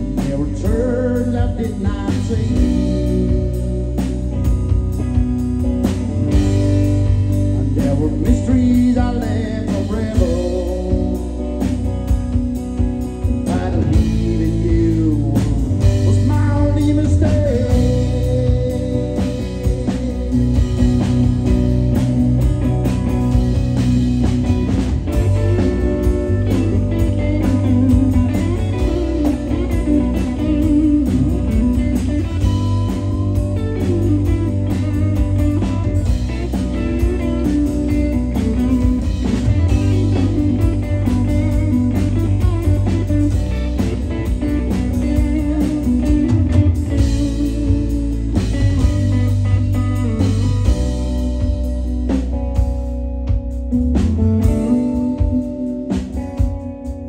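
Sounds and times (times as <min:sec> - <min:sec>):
blues-rock band playing: 0:00.0 - 0:57.0
lead electric guitar bending notes: 0:00.0 - 0:57.0.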